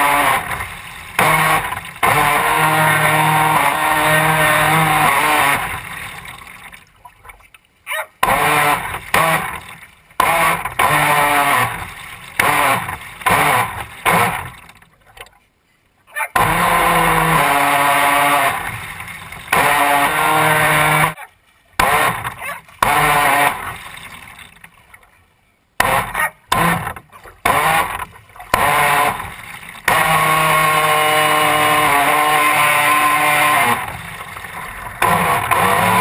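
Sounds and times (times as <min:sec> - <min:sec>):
model boat motor whining: 0:00.0 - 0:06.7, 0:08.2 - 0:14.7, 0:16.4 - 0:21.2, 0:21.8 - 0:24.6, 0:25.8 - 0:36.0.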